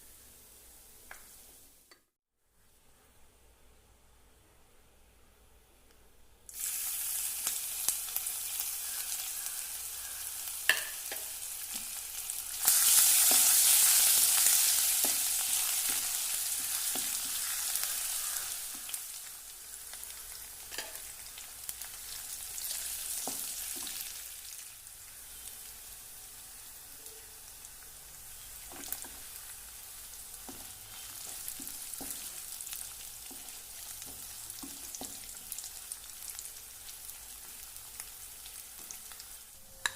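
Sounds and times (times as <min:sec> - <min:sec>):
food sizzling in hot oil: 0:06.5 - 0:39.9.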